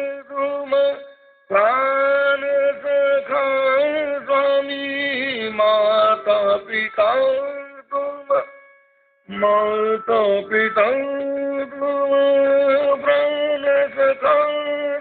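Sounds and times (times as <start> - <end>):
man singing devotional song: 0.0 - 15.0.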